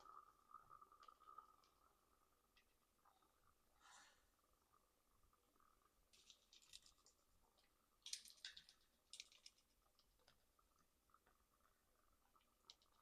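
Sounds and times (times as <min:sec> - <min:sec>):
faint crackly clicking: 0:00.0 - 0:13.0.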